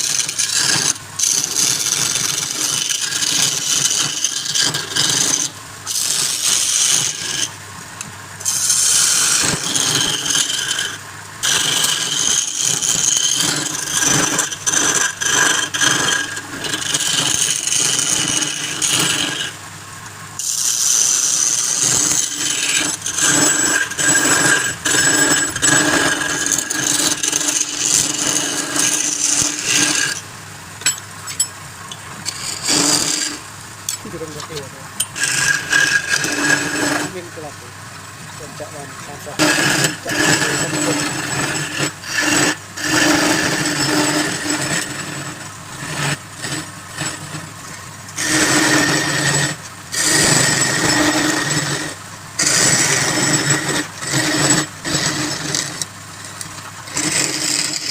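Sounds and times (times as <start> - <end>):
turning tool scraping wood: 0.0 - 19.6, 20.4 - 57.9
wood lathe spinning: 0.0 - 19.7, 20.4 - 57.9.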